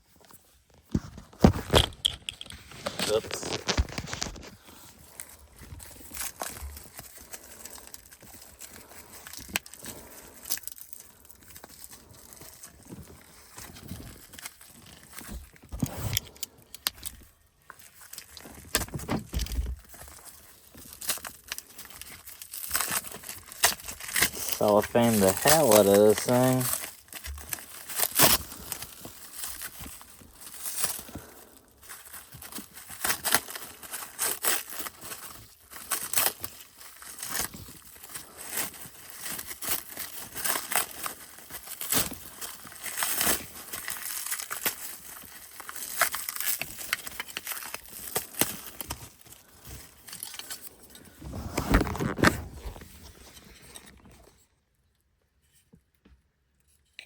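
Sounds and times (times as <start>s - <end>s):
plastic wrap crinkling and tearing: 0.0s - 54.5s.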